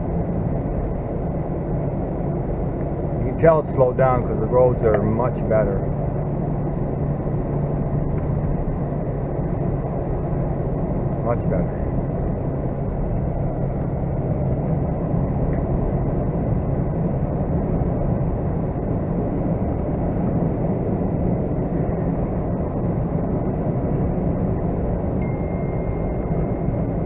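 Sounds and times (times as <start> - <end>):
vehicle engine and road rumble: 0.0 - 27.0.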